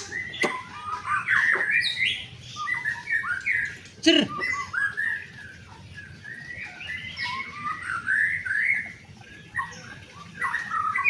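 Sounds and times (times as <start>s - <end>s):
bird singing whistled phrases: 0.0s - 11.0s.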